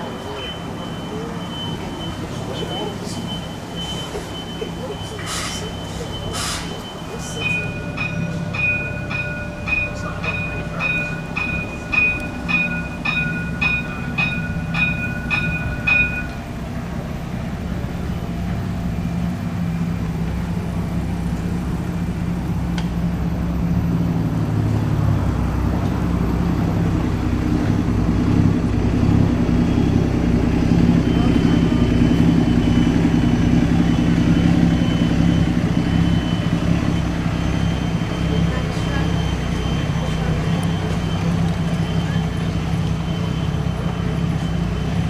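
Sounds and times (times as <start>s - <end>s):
bus drivetrain droning: 0.0s - 45.0s.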